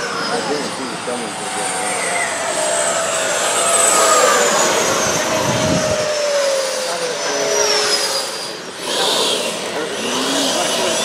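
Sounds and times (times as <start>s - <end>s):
model jet turbine whine: 0.0s - 11.0s.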